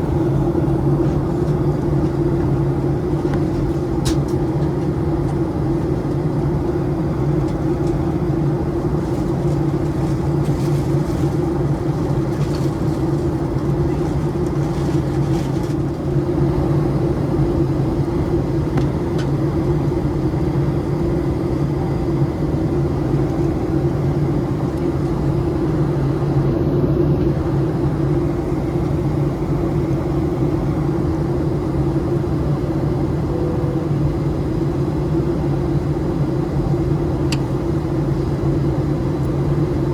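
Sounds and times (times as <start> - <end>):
airplane cabin rushing roar: 0.0 - 39.9
steady low hum: 0.0 - 39.9.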